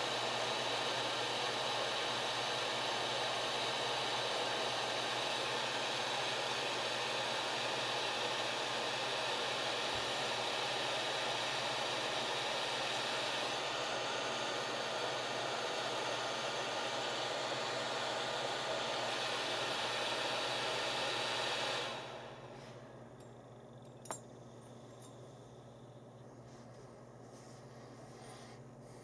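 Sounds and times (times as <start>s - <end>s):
hot-air blower hissing: 0.0s - 23.3s, 24.8s - 29.0s.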